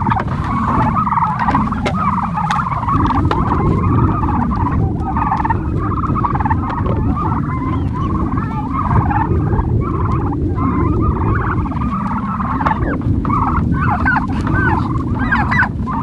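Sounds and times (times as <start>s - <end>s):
low rumble: 0.0s - 16.0s
turkeys gobbling: 0.0s - 16.0s.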